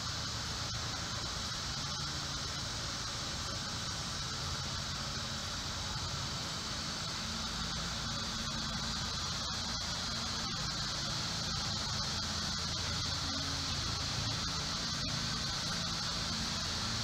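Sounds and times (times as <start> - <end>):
high hiss: 0.0 - 17.0.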